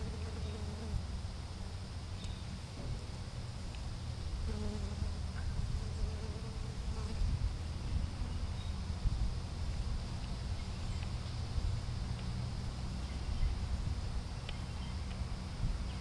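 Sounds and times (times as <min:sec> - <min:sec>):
insect buzzing: 0:00.0 - 0:01.9, 0:04.2 - 0:16.0
low steady rumble: 0:00.0 - 0:16.0.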